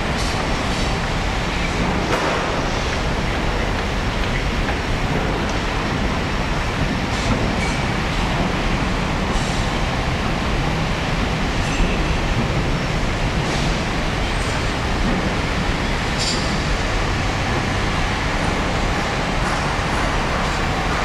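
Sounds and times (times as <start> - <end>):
city traffic roar: 0.0 - 21.0.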